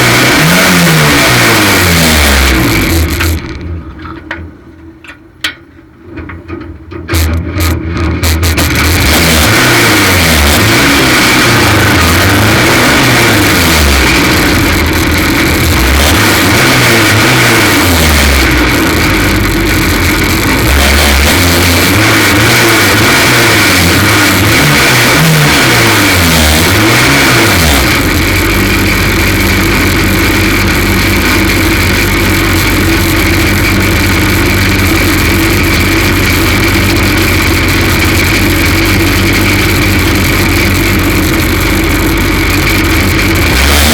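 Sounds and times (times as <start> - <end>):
racing car engine revving: 0.0 - 4.1, 7.1 - 43.9.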